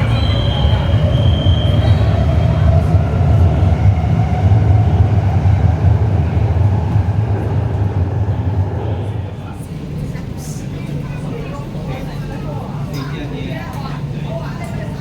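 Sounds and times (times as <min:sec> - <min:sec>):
train rumbling with hum: 0:00.0 - 0:15.0.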